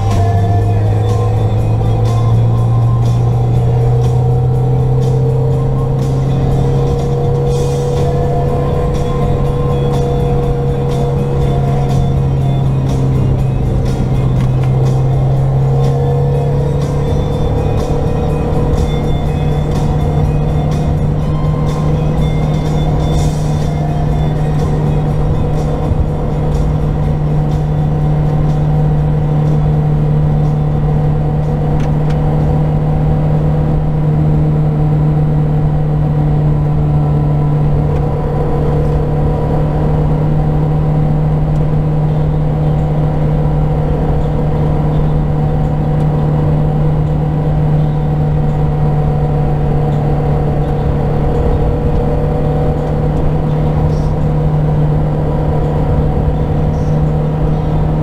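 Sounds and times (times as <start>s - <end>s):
car engine at steady revs: 0.0s - 58.0s
road noise: 0.0s - 58.0s.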